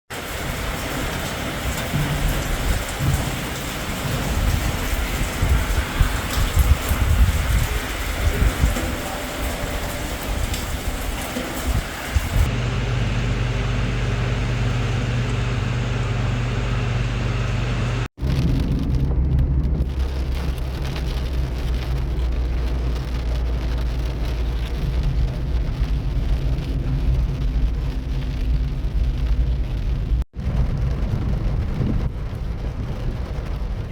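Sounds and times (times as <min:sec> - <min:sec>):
heavy rain falling: 0:00.1 - 0:33.9
low rumble: 0:00.2 - 0:33.9.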